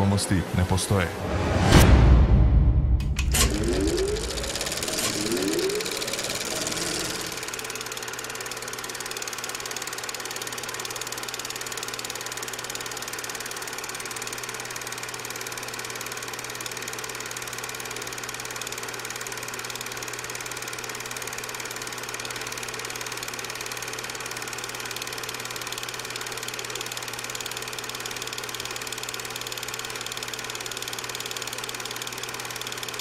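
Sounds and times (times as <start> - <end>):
mechanical hum with rattle: 0.0 - 33.0.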